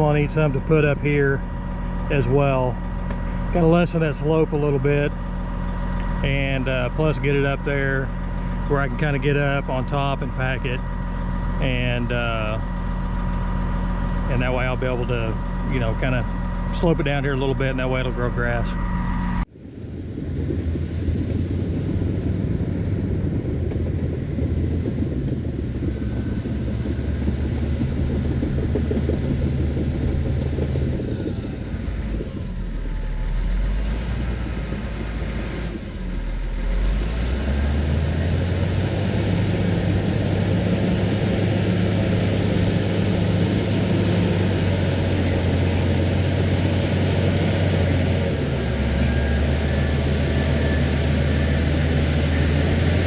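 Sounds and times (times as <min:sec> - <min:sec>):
diesel engine working under load: 0:00.0 - 0:53.0.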